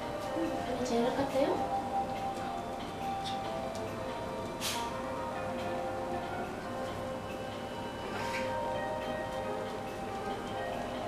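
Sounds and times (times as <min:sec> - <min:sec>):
music with held notes: 0:00.0 - 0:11.0.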